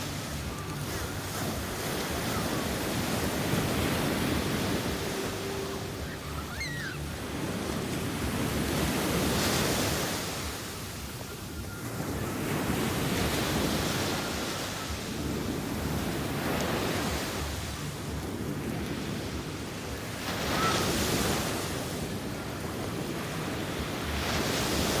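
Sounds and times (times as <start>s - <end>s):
sea waves washing in: 0.0s - 25.0s.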